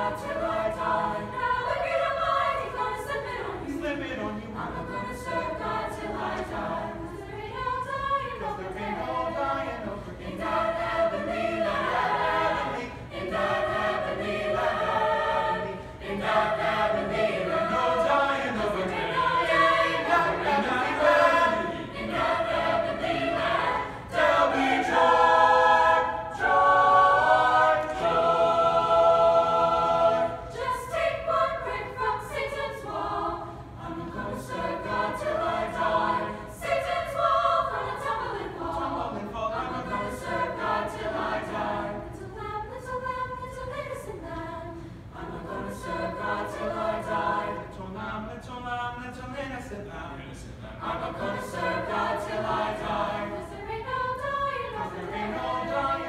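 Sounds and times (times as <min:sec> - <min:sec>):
choir singing: 0:00.0 - 0:49.7, 0:50.6 - 0:56.0.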